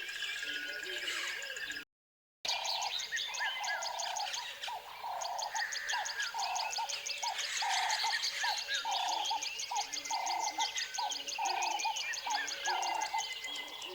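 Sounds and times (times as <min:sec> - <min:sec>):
birds calling: 0:02.5 - 0:13.9.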